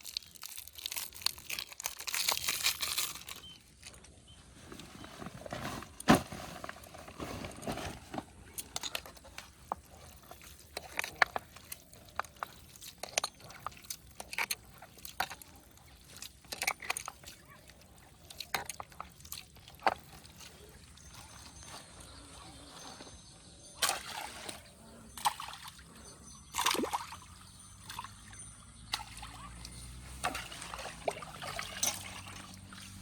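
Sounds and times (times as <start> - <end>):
wet squelches and drips: 0.0 - 4.1, 8.5 - 22.8, 23.8 - 33.0.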